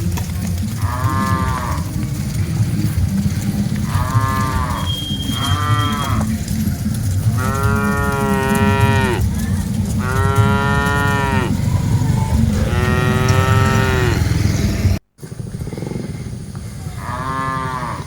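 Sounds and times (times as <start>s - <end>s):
low rumble: 0.0s - 16.8s
cattle mooing: 0.6s - 15.0s, 16.9s - 18.0s.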